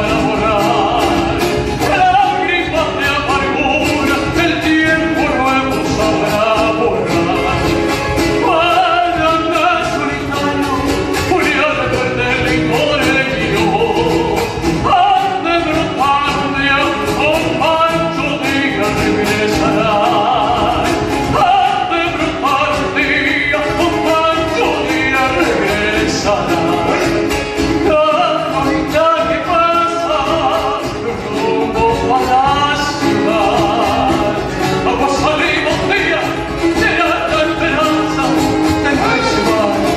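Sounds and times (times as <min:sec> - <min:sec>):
folk song singing voice: 0:00.0 - 0:39.9
instrumental accompaniment with beat: 0:00.0 - 0:39.9.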